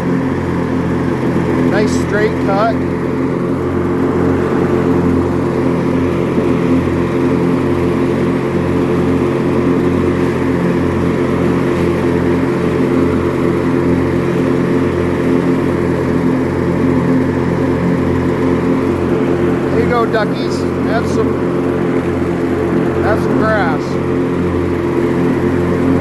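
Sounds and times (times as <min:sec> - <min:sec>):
riding mower engine running: 0:00.0 - 0:26.0.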